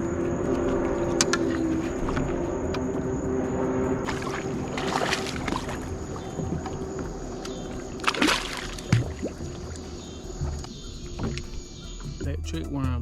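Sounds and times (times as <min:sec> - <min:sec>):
boat motor humming: 0:00.0 - 0:12.2
rustling or splashing: 0:00.4 - 0:03.1, 0:04.0 - 0:12.2.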